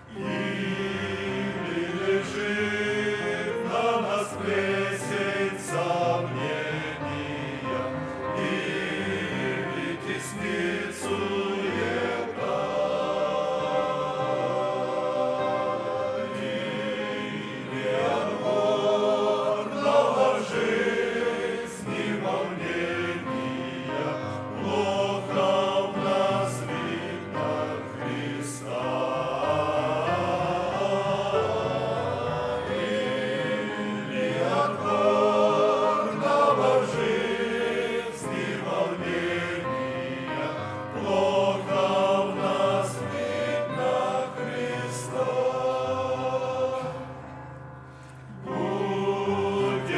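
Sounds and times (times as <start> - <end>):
men's choir singing a hymn: 0.0 - 49.9.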